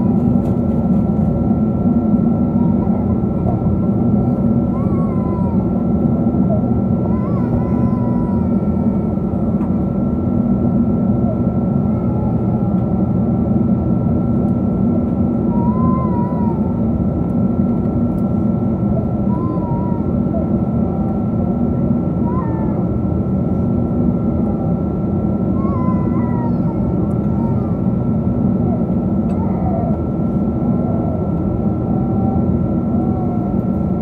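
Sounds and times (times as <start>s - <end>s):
airplane cabin engine roar: 0.0s - 34.0s.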